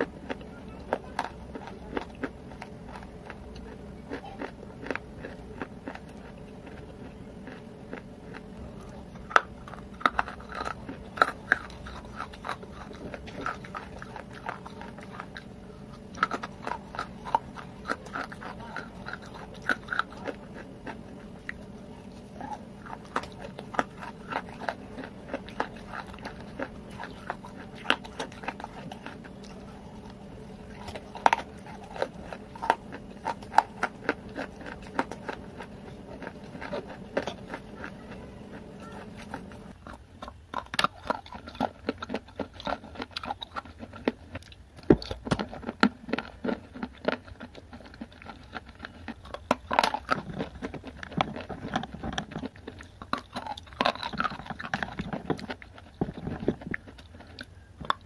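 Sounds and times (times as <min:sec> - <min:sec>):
crunching and chewing of clay: 0:00.0 - 0:58.0.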